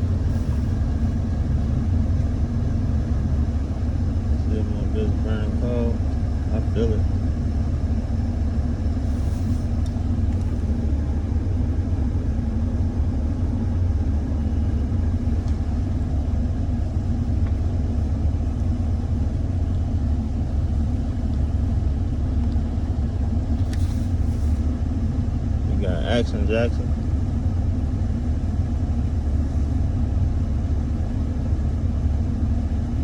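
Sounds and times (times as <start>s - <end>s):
car engine running: 0.0s - 33.0s.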